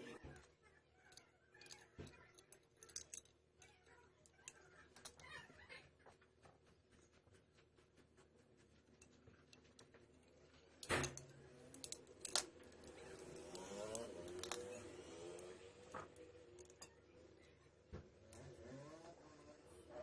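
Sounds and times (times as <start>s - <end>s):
small hard parts clicking: 0.0s - 17.0s.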